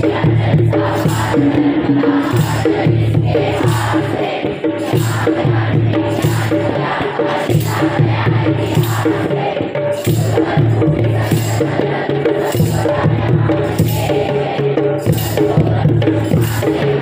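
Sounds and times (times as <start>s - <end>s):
instrumental music with percussion beat: 0.0s - 17.0s.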